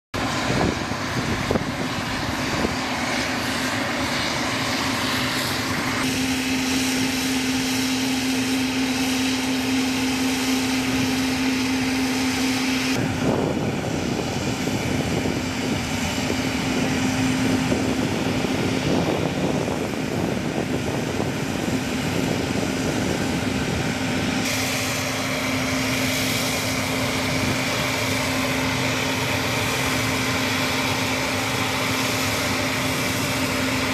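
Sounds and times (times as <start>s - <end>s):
hovercraft engines and fans running: 0.2s - 33.9s.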